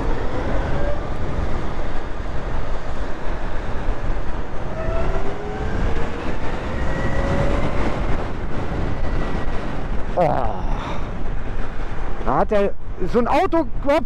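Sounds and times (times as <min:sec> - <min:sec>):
wind rushing: 0:00.0 - 0:13.1.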